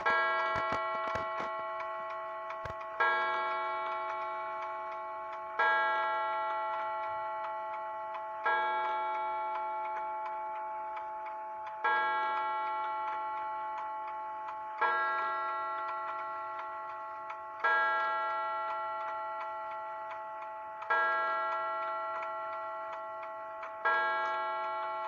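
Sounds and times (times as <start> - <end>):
mantel clock gong strokes: 0.0 - 25.0.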